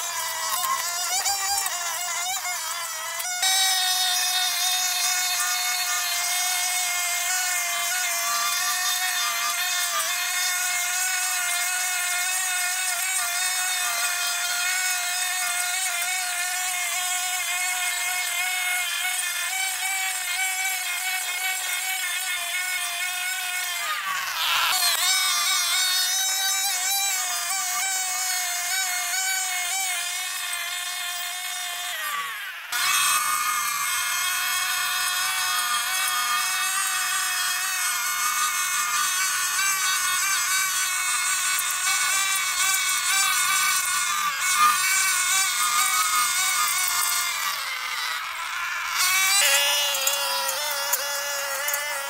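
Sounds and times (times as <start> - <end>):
brush cutter engine whine: 0.0 - 52.0.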